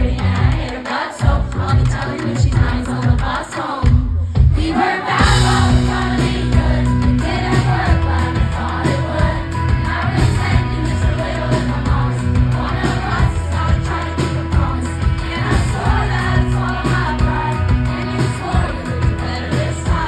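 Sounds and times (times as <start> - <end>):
live pop song with woman singing: 0.0 - 20.0.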